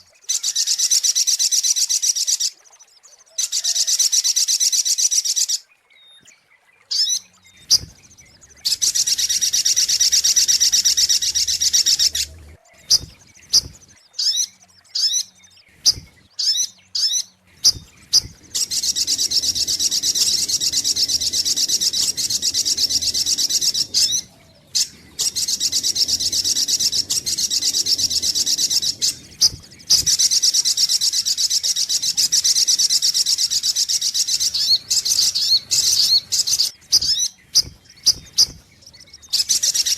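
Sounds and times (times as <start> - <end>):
bird trilling: 6.9 - 39.9
bird chips: 7.6 - 39.9.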